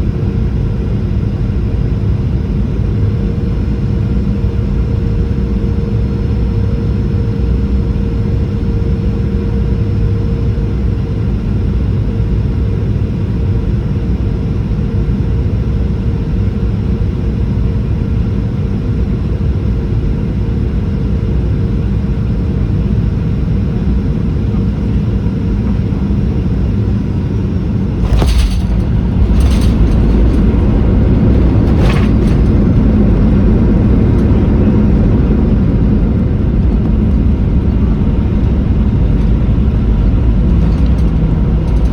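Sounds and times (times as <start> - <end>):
airplane engine rumble in cabin: 0.0 - 41.9.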